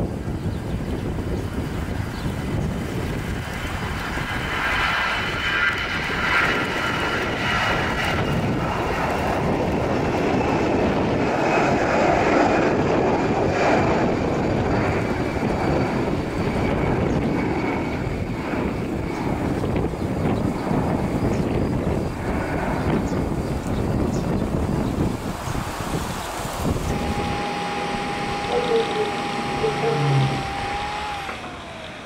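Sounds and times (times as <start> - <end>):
jet engines roaring at takeoff: 0.0 - 32.0.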